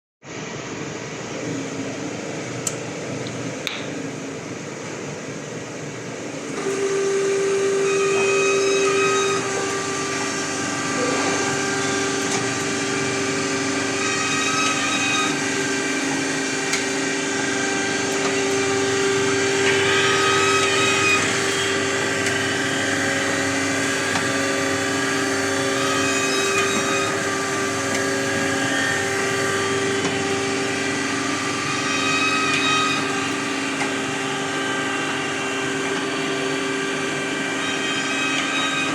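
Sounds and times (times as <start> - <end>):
machine hum and whine: 0.2 - 38.9.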